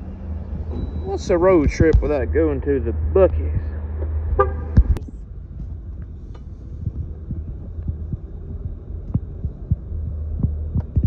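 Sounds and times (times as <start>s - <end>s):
road rumble inside car: 0.0s - 11.0s.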